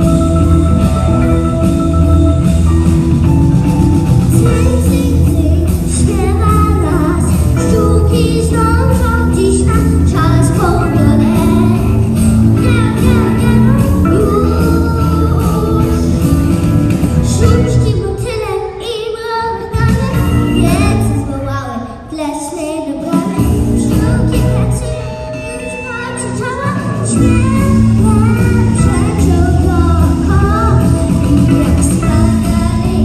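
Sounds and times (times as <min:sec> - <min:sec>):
backing music: 0:00.0 - 0:18.6, 0:19.5 - 0:21.7, 0:22.6 - 0:33.0
girl singing into a microphone: 0:04.3 - 0:16.2, 0:17.2 - 0:33.0.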